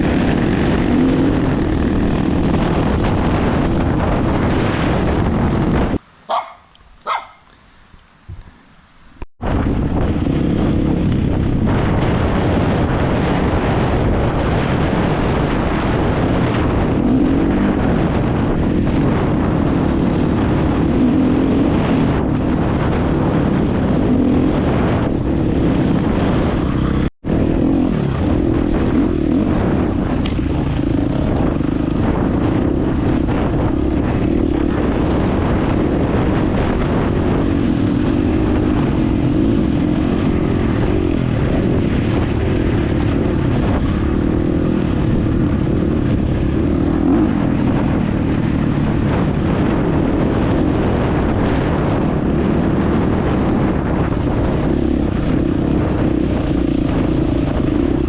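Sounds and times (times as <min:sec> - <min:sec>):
dirt bike engine running: 0:00.0 - 0:07.5, 0:09.4 - 0:58.0.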